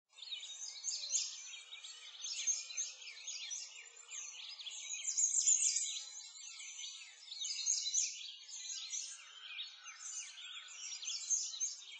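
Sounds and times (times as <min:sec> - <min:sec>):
songbirds chirping and singing: 0:00.1 - 0:11.9.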